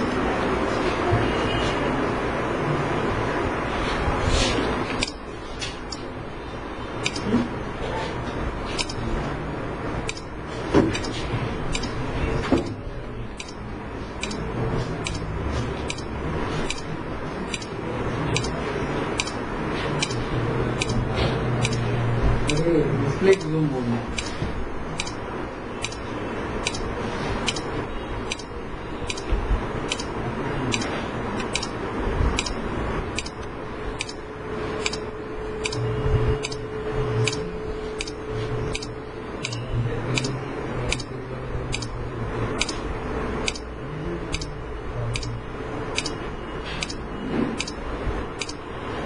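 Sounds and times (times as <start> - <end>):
steady ticking: 5.0 - 7.3, 8.8 - 9.1, 10.0 - 48.7.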